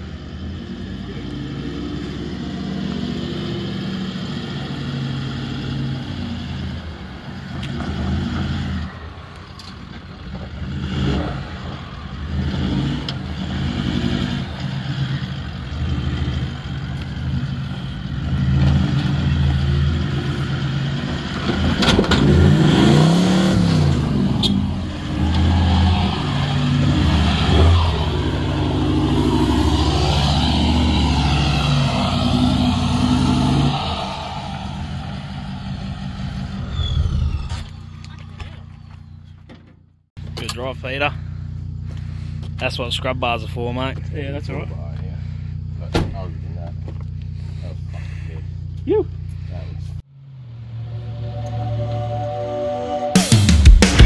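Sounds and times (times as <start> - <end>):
vehicle engine labouring and revving: 0.0 - 54.0.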